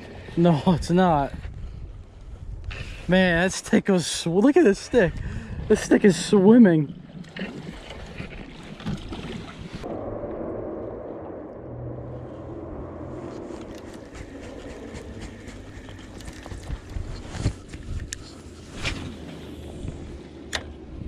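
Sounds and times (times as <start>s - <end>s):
wind buffeting microphone: 0.0s - 3.1s, 4.9s - 6.0s, 7.0s - 21.0s.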